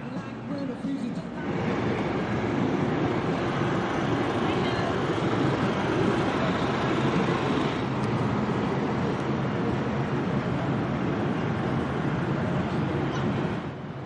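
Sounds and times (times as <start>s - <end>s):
road traffic rumbling: 0.0s - 14.0s.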